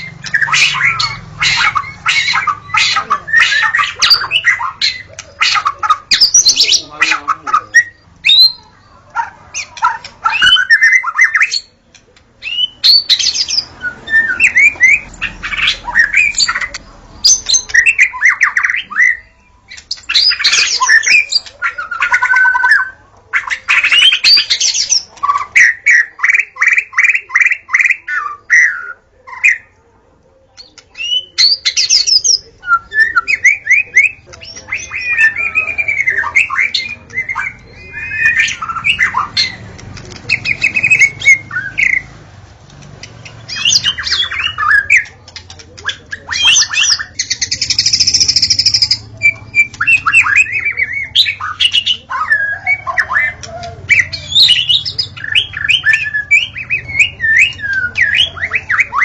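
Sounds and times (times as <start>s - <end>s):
bird singing varied phrases: 0.0s - 29.8s, 30.4s - 59.0s.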